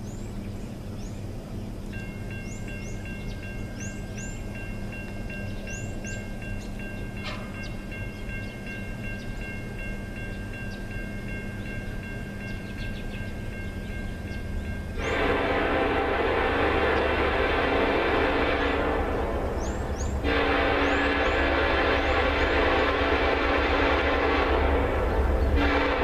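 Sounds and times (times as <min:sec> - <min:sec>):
rush of train noise: 0:00.0 - 0:26.0
crossing bell dinging: 0:02.0 - 0:26.0.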